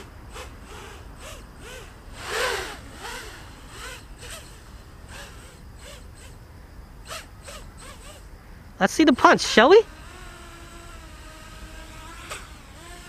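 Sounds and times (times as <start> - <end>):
drone motors whining: 0.0 - 13.0
low wind rumble: 0.0 - 13.0.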